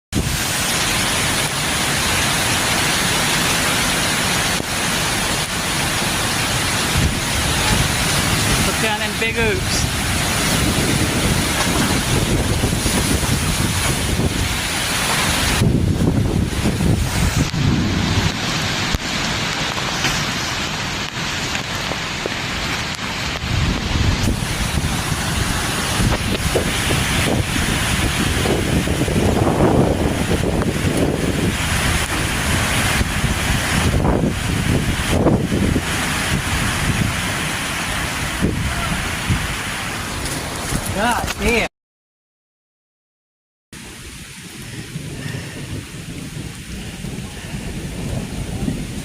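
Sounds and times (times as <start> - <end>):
heavy rain: 0.1 - 41.7, 43.8 - 49.0
strong storm wind: 0.1 - 41.7, 43.8 - 49.0.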